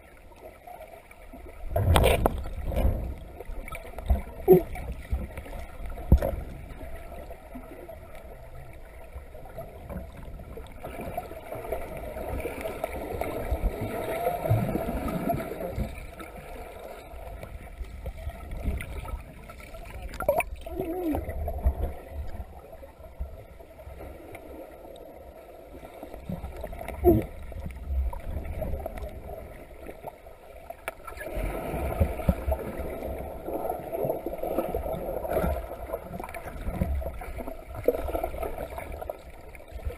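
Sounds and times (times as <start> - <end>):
underwater sloshing and rumble: 0.0 - 39.9.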